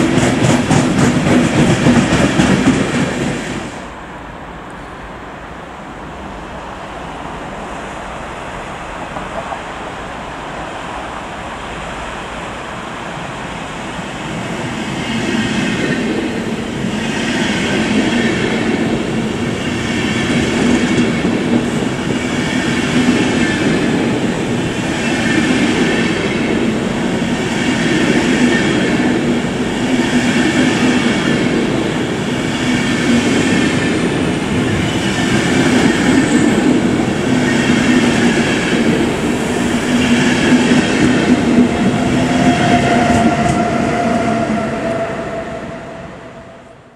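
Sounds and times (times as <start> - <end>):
electric locomotive whine: 0.0 - 46.9
train wheels rolling on rail: 0.0 - 46.9.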